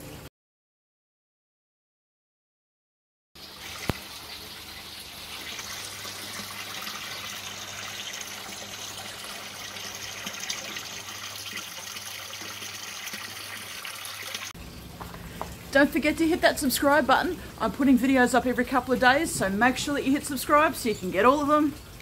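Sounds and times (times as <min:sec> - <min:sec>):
water trickling and splashing: 0:03.4 - 0:22.0.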